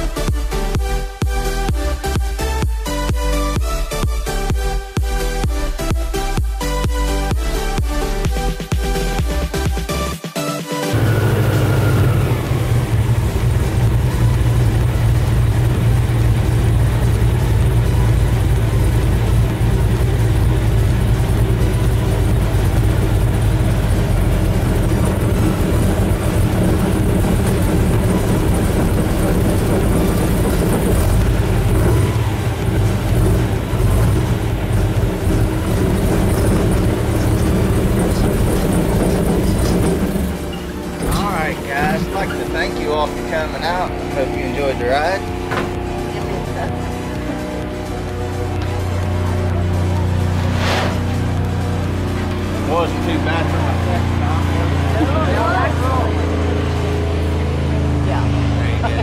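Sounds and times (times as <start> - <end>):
airboat engine droning: 10.9 - 59.0.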